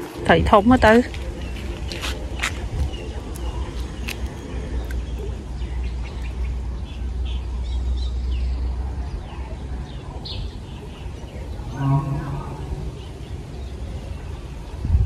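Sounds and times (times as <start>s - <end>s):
steady low rumble: 0.0s - 15.0s
birds chirping: 0.4s - 15.0s.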